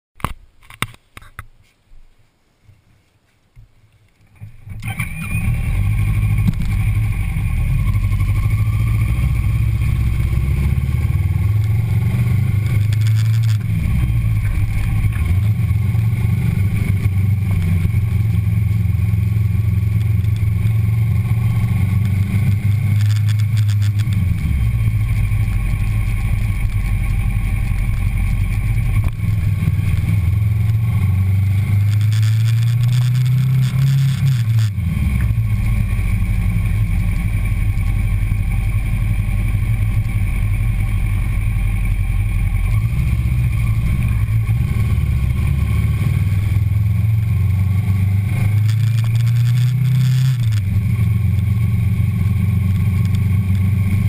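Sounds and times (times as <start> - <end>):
motorcycle engine running: 4.4 - 54.0.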